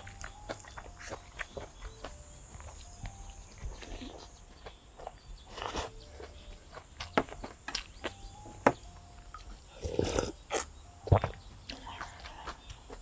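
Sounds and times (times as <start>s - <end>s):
chewing: 0.0s - 8.4s, 9.1s - 13.0s.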